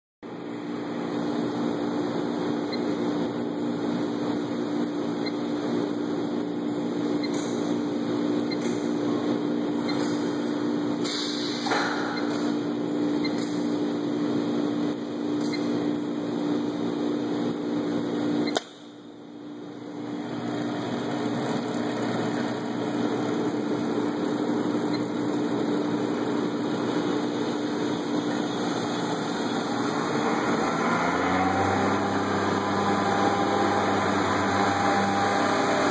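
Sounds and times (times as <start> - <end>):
machine motor hum: 0.3 - 35.9.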